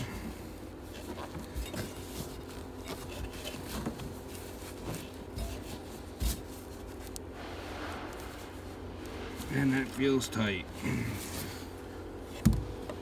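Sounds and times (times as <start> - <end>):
glove and fabric rubbing: 0.0 - 13.0.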